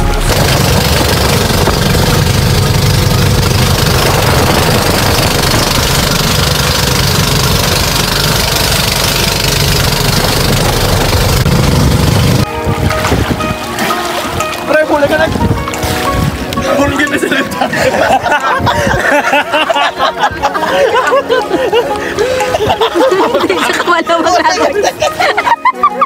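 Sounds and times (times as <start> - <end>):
boat engine running: 0.0 - 24.2
wind and water rushing: 0.0 - 25.5.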